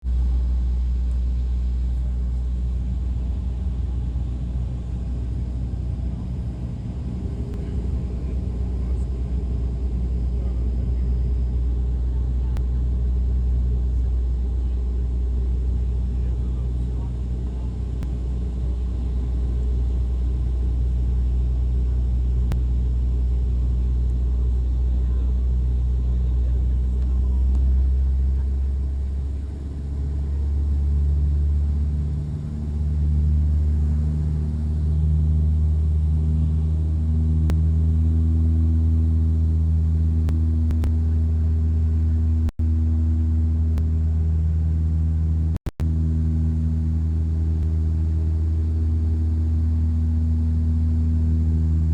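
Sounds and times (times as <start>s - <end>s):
aircraft cabin engine drone: 0.0s - 51.9s.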